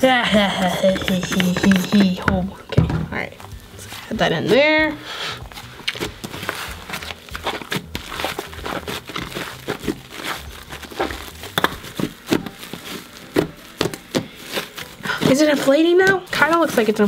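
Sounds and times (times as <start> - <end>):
slime squishing: 3.3 - 17.0.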